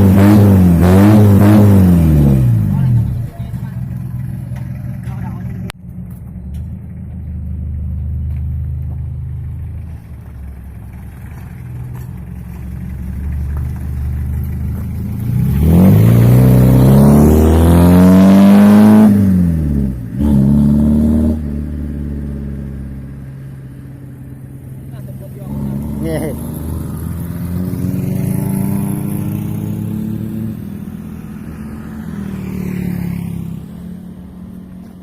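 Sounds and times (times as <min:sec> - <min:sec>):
engine idling and revving: 0:00.0 - 0:35.0.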